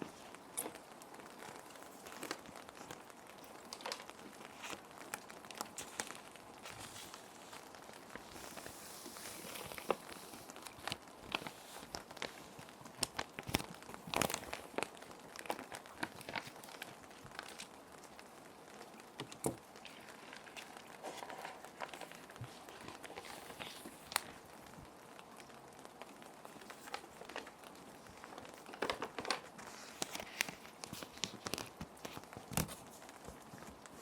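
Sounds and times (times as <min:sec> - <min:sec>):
background rain hiss: 0:00.0 - 0:34.0
plastic and paper crinkling: 0:00.0 - 0:34.0.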